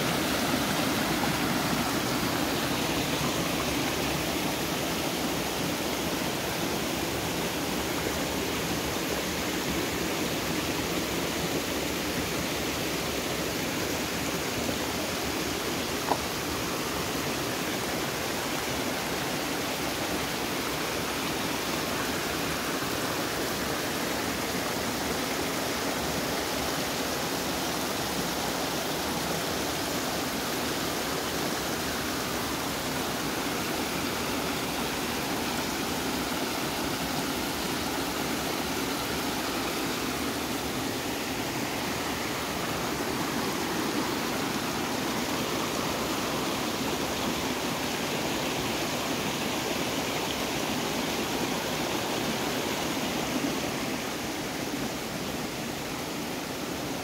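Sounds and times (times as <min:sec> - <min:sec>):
creek water flowing over rocks: 0:00.0 - 0:57.0.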